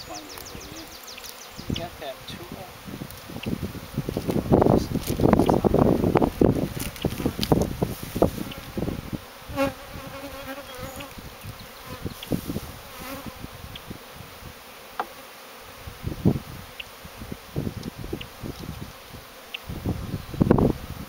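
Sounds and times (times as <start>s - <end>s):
bee droning close by: 0.0s - 21.0s
bees buzzing: 0.0s - 21.0s.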